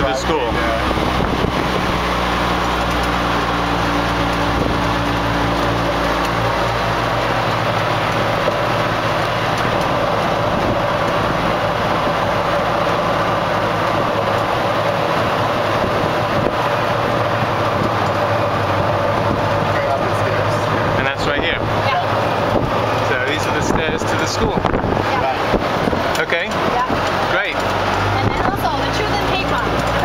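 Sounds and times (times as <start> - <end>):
golf cart motor drone: 0.0 - 30.0
high motor whine: 0.0 - 30.0
road and wind noise: 0.0 - 30.0.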